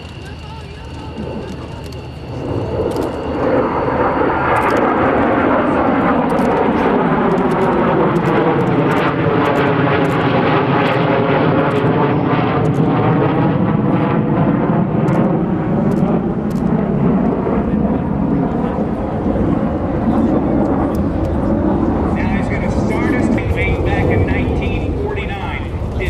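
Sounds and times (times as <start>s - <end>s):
jet aircraft roaring past: 0.0s - 26.0s.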